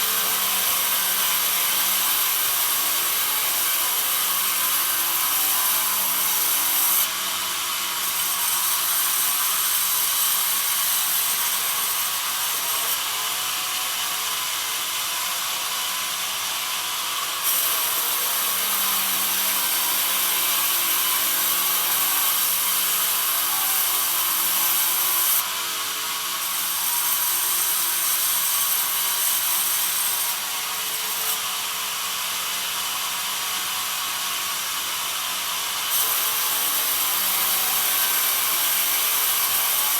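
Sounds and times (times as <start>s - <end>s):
bandsaw blade whining through wood: 0.0s - 39.9s.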